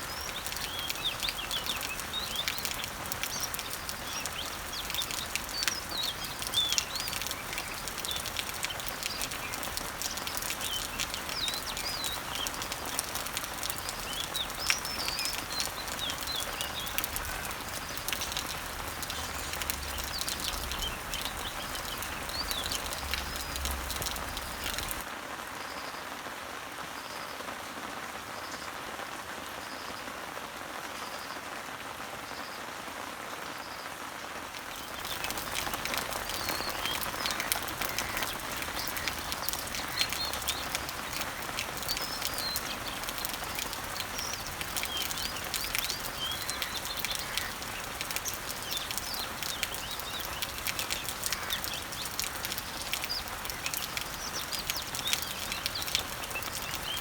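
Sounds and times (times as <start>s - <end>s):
small birds chirping: 0.0s - 25.1s, 34.5s - 57.0s
rain on leaves: 0.0s - 57.0s.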